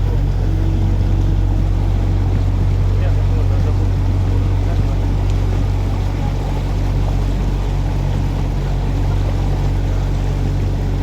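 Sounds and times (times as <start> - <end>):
boat motor humming: 0.0 - 11.0
water splashing and rushing: 0.0 - 11.0.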